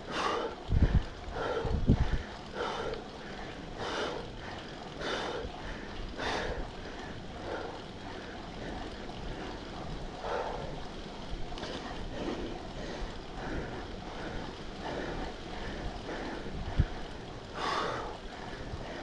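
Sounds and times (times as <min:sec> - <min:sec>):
bicycle wind and rolling noise: 0:00.0 - 0:19.0.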